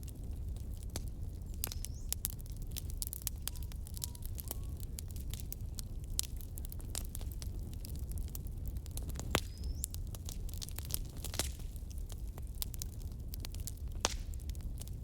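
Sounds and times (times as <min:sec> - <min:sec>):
campfire wood crackling: 0:00.0 - 0:15.0
low steady fire rumble: 0:00.0 - 0:15.0.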